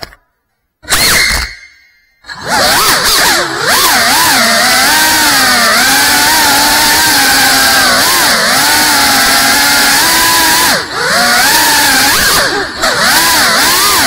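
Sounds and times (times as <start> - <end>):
drone motors whining: 2.2 - 14.0.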